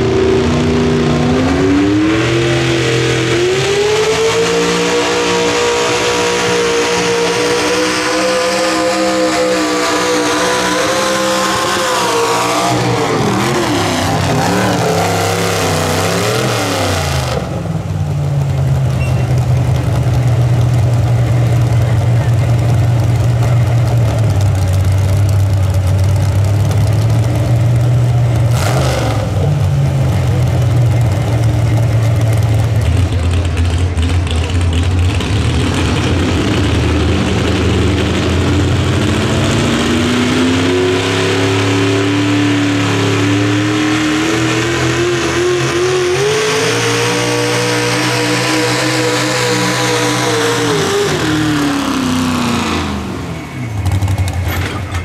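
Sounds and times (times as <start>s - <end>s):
tractor engine revving high: 0.0s - 55.0s.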